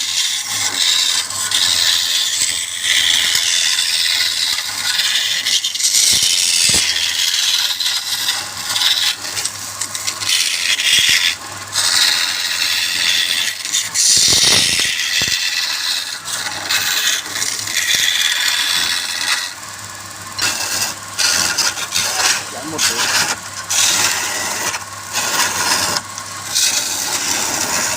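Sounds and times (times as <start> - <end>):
lathe motor hum: 0.0 - 27.9
lathe tool cutting wood: 0.0 - 27.9.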